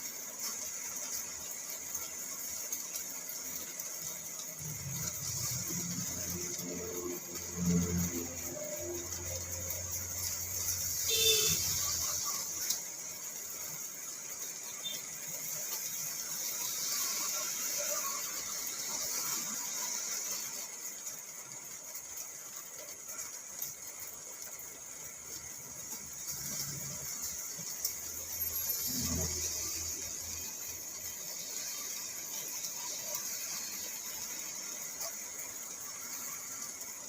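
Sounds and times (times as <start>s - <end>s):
rain on a car: 0.0s - 37.0s.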